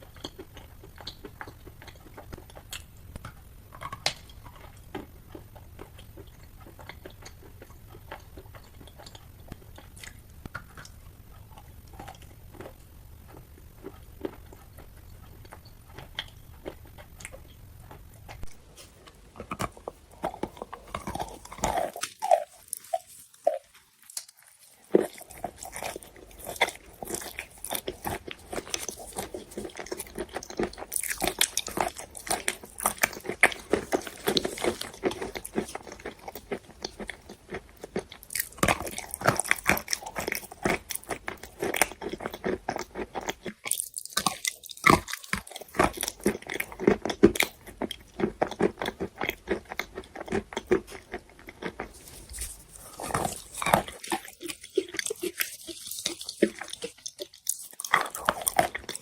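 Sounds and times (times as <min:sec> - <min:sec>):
chewing chalk crunches: 0:00.0 - 0:59.0.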